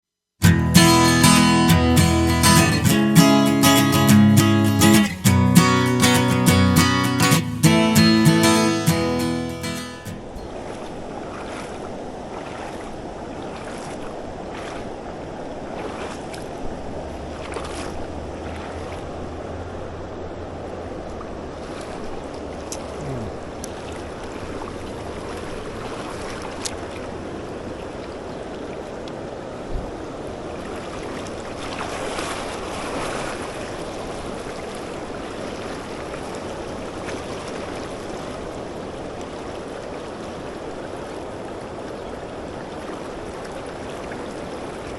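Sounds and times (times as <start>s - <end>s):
creek water rushing: 0.4s - 44.9s.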